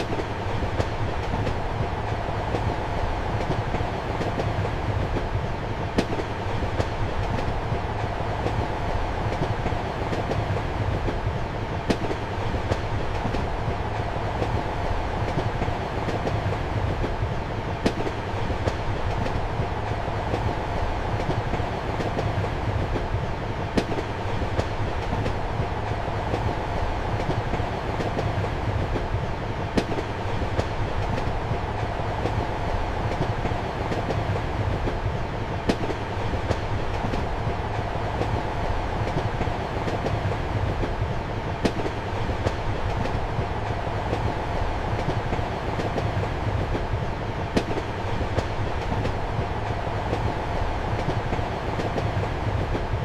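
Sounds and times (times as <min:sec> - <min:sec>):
train running rumble and hiss: 0:00.0 - 0:53.0.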